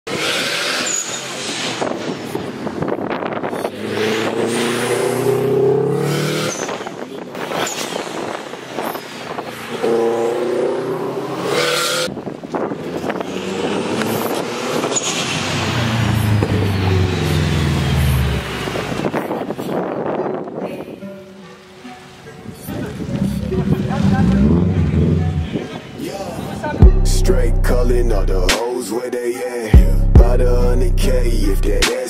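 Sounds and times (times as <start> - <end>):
car engine revving: 0.1 - 19.2, 23.0 - 25.8, 26.8 - 28.6, 29.8 - 31.9.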